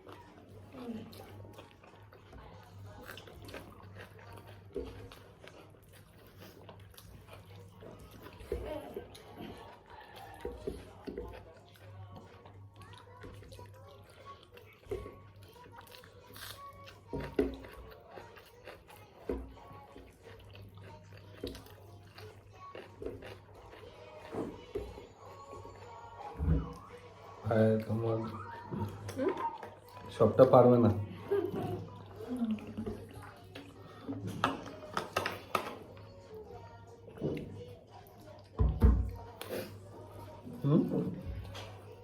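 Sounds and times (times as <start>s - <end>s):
people chewing food: 0.0s - 42.0s.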